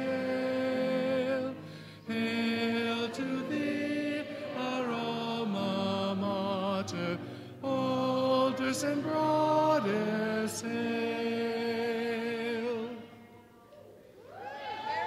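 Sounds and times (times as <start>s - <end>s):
voices singing a slow hymn: 0.0s - 13.4s.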